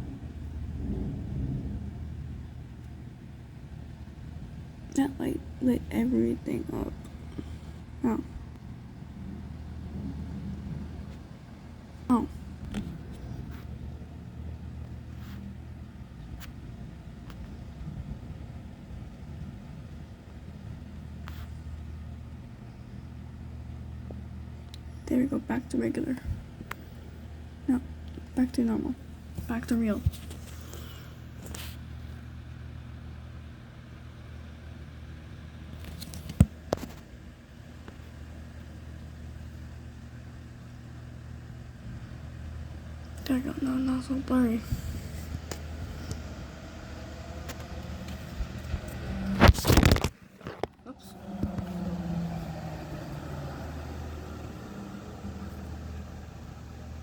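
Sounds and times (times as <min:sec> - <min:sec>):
steady rain hiss: 0:00.0 - 0:24.2, 0:24.9 - 0:57.0
low steady hum: 0:00.0 - 0:57.0.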